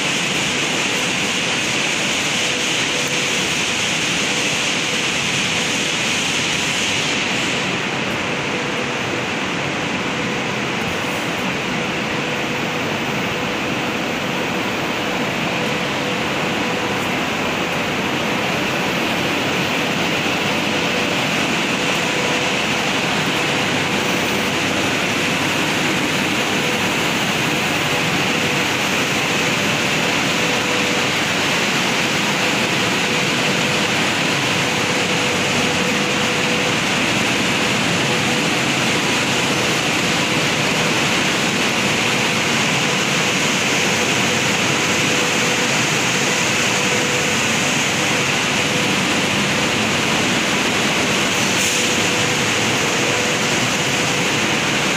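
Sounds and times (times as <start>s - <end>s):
cooling blowers hissing: 0.0s - 54.9s.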